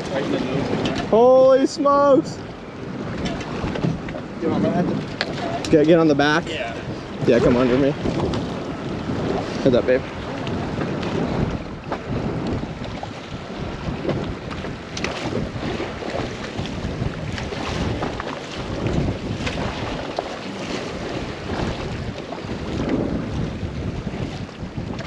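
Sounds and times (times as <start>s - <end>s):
water sloshing against hull: 0.0s - 25.0s
wind buffeting microphone: 0.0s - 25.0s.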